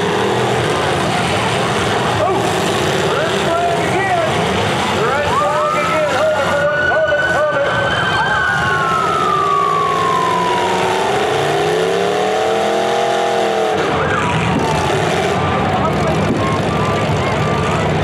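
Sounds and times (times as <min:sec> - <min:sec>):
car engines revving hard: 0:00.0 - 0:18.0.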